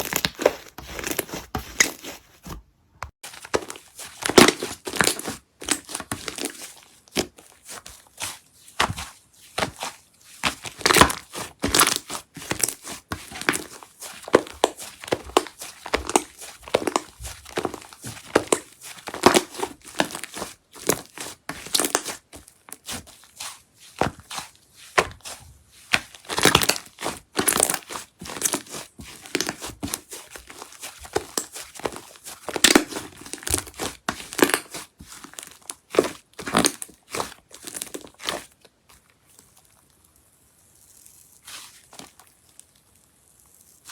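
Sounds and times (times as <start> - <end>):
sticky slime crackles: 3.2 - 43.9.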